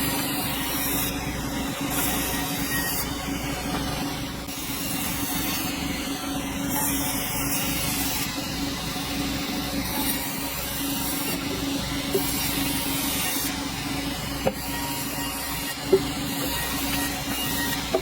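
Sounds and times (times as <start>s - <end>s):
sawmill machinery hum: 0.0s - 18.0s.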